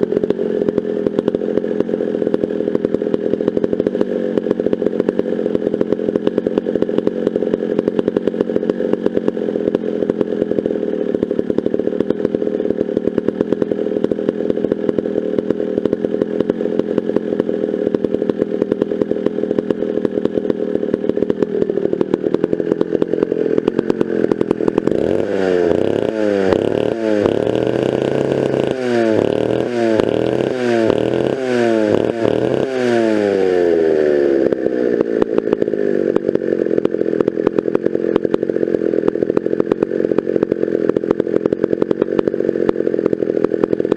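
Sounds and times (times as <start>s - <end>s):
chainsaw idling and revving: 0.0s - 43.9s.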